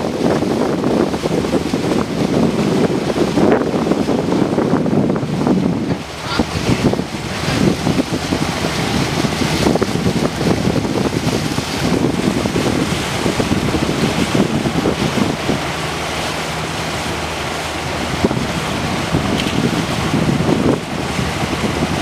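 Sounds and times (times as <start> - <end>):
low motor hum: 0.0 - 22.0
water noise: 0.0 - 22.0
wind buffeting microphone: 0.0 - 22.0.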